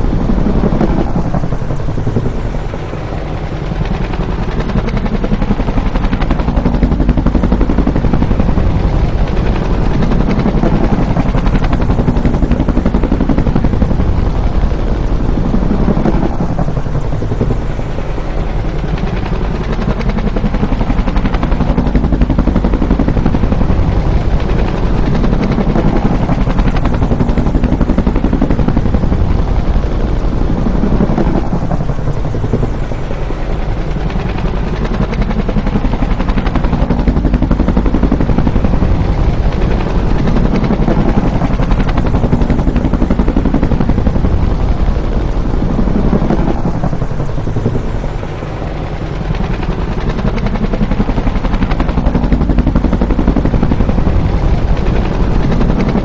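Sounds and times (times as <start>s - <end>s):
helicopter rotor beating: 0.0s - 56.0s.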